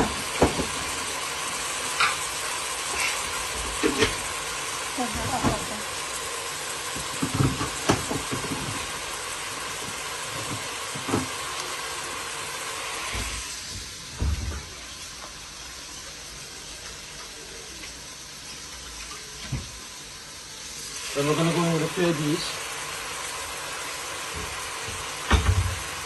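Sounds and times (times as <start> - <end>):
onions sizzling in a pan: 0.0 - 26.0.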